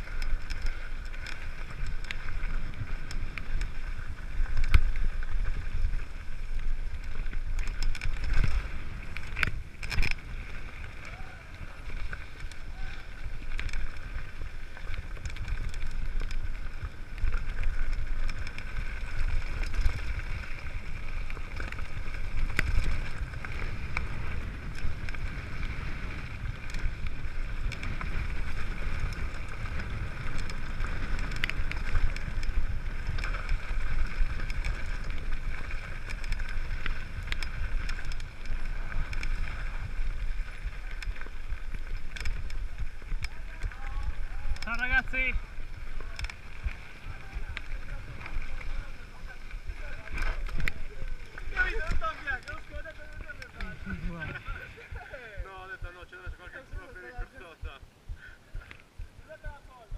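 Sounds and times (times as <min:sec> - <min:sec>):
bike rattling on gravel: 0:00.0 - 0:57.6
wind rumble on camera: 0:00.0 - 0:59.9.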